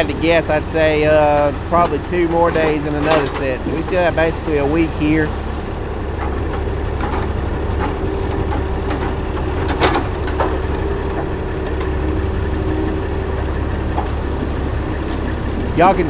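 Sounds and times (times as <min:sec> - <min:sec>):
logs knocking and clunking: 0:00.0 - 0:05.6, 0:06.2 - 0:16.0
diesel log loader running: 0:00.0 - 0:16.0
hydraulic whine: 0:00.0 - 0:16.0.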